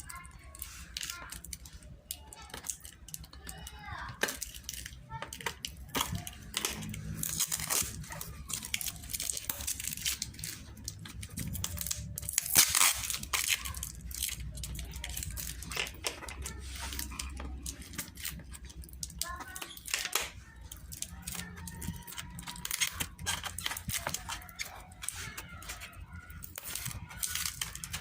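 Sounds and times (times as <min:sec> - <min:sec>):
packaging tearing and crinkling: 0:04.2 - 0:28.0.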